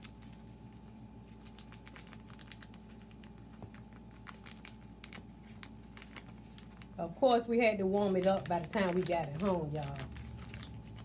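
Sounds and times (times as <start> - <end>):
paper packets crinkling: 0.0 - 11.0
steady low hum: 0.0 - 11.0.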